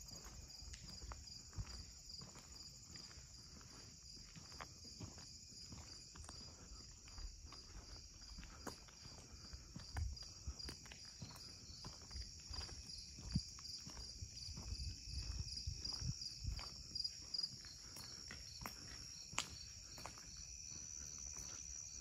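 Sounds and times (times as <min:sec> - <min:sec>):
footsteps clicking: 0:00.0 - 0:22.0
insects chirping: 0:00.0 - 0:22.0.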